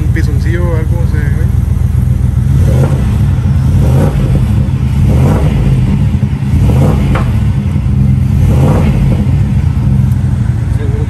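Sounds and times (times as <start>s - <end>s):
engine exhaust rumble with revving: 0.0s - 11.0s.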